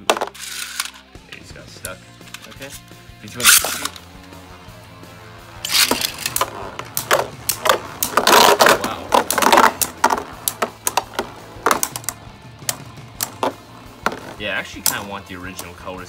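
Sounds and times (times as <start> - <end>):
spinning tops clashing: 0.0 - 1.1, 2.2 - 4.4, 5.6 - 15.1
spinning tops whirring: 0.0 - 1.1, 1.8 - 15.8.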